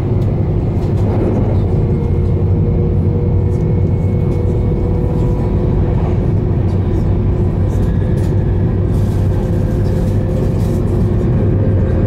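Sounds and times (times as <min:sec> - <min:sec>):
train cabin low rumble: 0:00.0 - 0:12.0.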